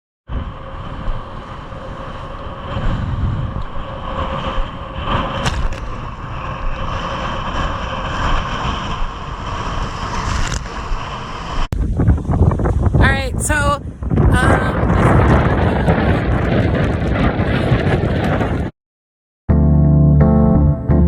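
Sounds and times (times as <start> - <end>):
gusty wind buffeting microphone: 0.3 - 18.7.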